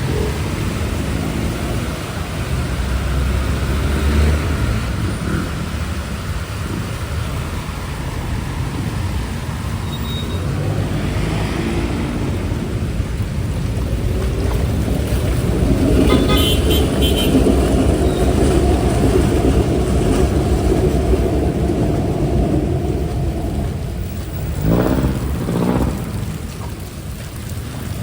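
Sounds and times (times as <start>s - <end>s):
cars and buses passing: 0.0s - 28.0s.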